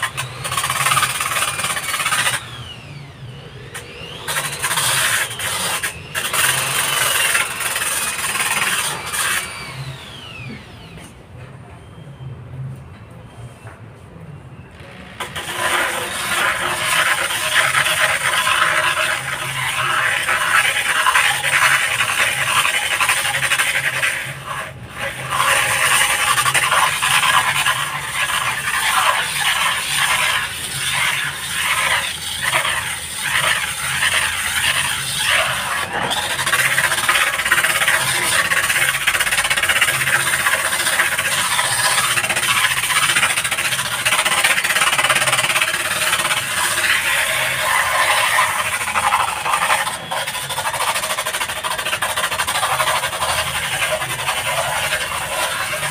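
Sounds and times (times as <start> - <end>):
drill sanding disc grinding wall: 0.0 - 11.0, 14.8 - 55.9.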